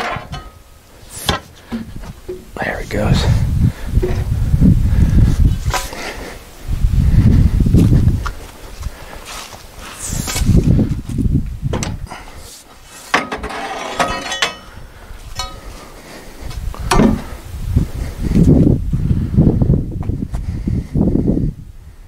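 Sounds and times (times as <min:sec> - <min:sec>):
wind buffeting microphone: 0:00.0 - 0:12.5, 0:14.7 - 0:22.0.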